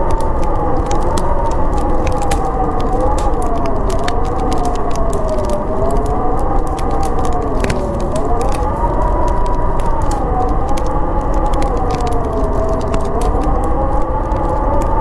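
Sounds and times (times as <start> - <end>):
howling storm wind: 0.0 - 15.0
wood fire crackling: 0.0 - 15.0.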